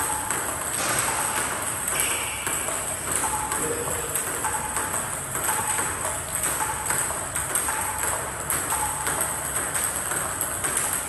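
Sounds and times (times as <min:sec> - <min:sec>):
table tennis balls knocking: 0:00.0 - 0:11.0.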